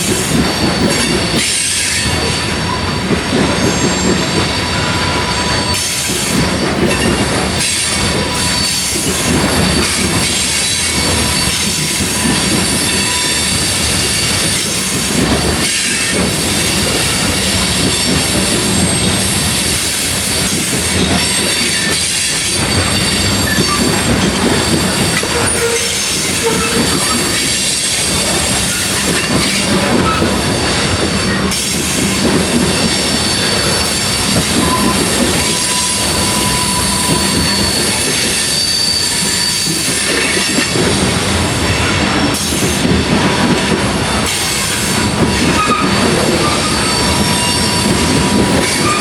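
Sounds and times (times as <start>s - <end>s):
freight cars rolling on rails: 0.0s - 49.0s
high wheel squeal: 0.3s - 40.8s, 44.3s - 49.0s.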